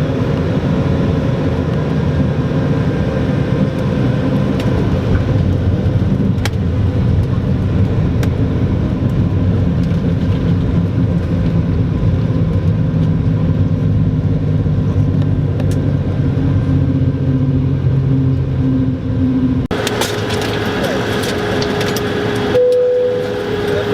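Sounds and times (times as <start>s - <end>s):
airplane cabin engine rumble: 0.0s - 23.9s.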